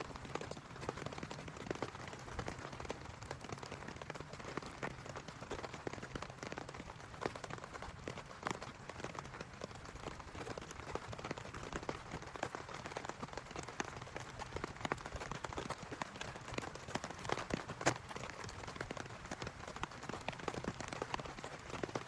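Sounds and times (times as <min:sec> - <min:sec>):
heavy rain drops on a surface: 0:00.0 - 0:22.0.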